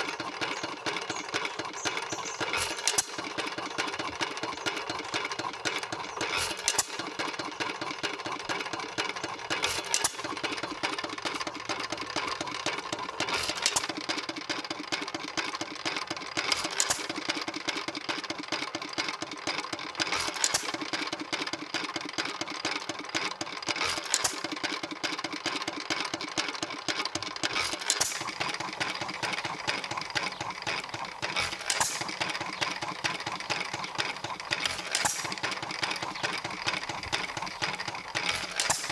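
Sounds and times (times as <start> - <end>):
rapid steady clicking: 0.0 - 38.9.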